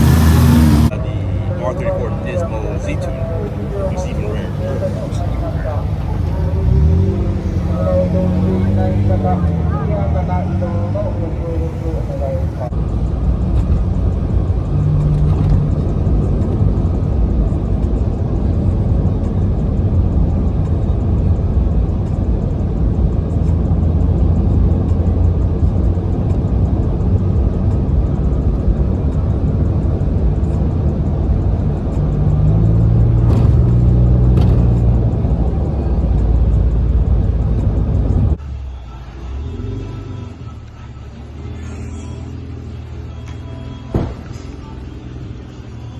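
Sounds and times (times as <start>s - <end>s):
car engine exhaust rumble: 0.0s - 45.9s.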